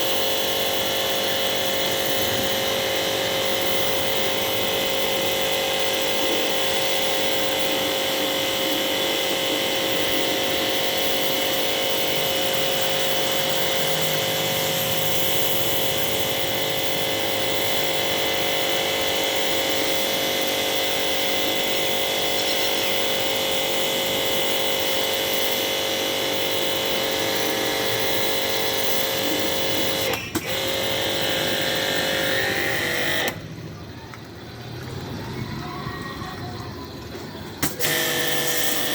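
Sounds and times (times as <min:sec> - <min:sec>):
machine humming: 0:00.0 - 0:33.9, 0:37.2 - 0:38.9.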